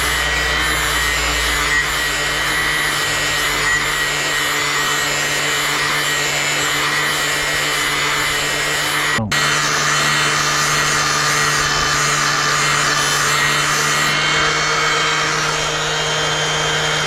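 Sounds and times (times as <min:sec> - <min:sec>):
angle grinder whining: 0:00.0 - 0:17.0.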